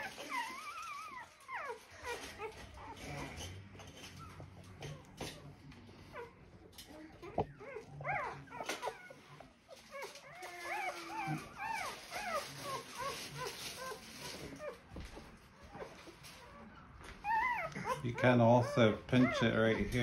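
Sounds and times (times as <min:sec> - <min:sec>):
puppy whimpering and squealing: 0:00.0 - 0:05.5, 0:06.1 - 0:14.8, 0:15.6 - 0:20.0.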